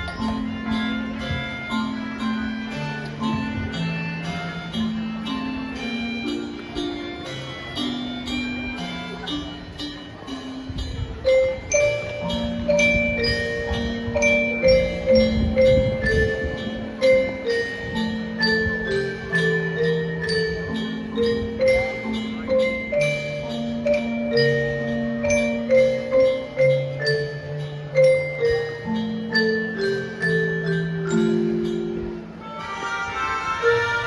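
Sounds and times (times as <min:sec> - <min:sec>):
marching band mallet percussion: 0:00.0 - 0:34.0.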